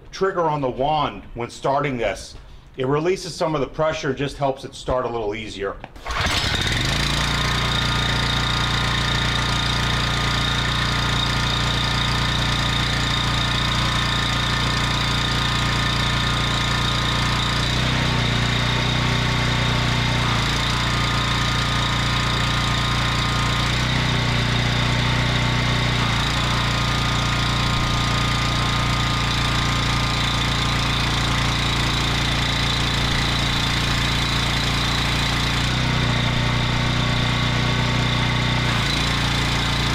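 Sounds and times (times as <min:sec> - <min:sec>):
gas engine running: 0:06.0 - 0:39.9.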